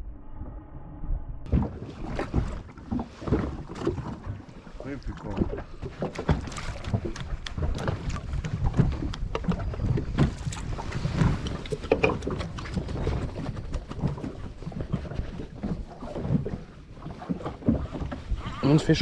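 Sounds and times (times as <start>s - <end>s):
wind on microphone: 0.0s - 19.0s
waves slapping against boat hull: 1.5s - 19.0s.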